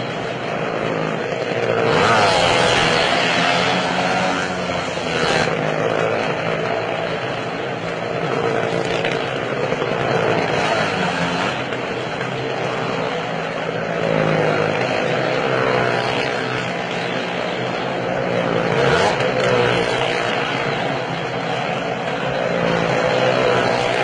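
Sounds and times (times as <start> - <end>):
car and motorcycle engines droning: 0.0 - 24.0.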